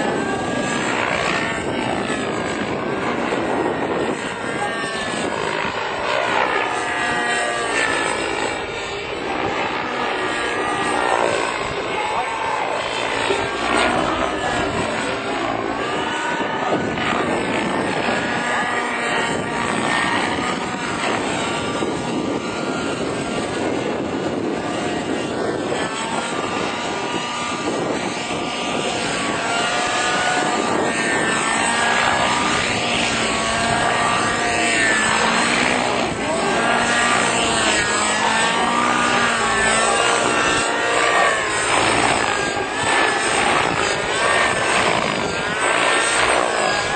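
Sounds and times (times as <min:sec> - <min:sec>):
helicopter rotor and engine: 0:00.0 - 0:46.9.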